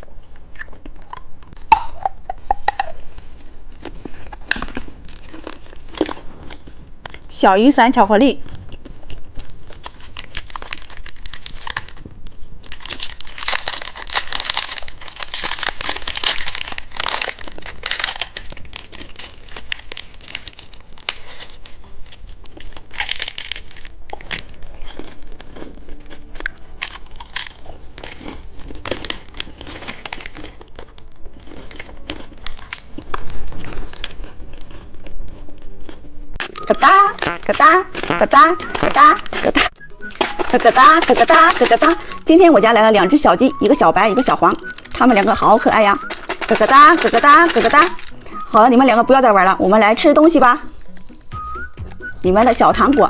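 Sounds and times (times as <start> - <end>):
plastic wrappers crinkling: 0.0 - 7.4, 8.4 - 36.6, 37.9 - 53.0.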